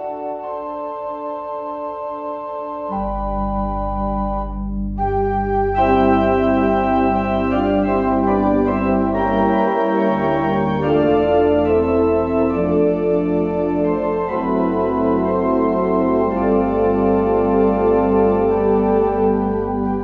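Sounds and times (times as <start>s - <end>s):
organ playing sustained chords: 0.0s - 20.0s.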